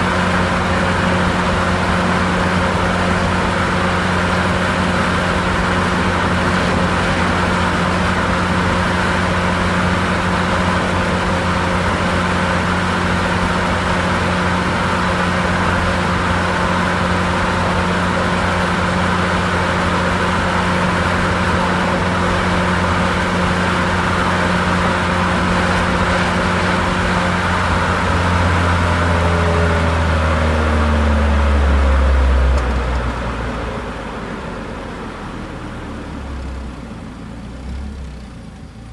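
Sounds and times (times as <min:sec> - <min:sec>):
car engine hum: 0:00.0 - 0:38.9.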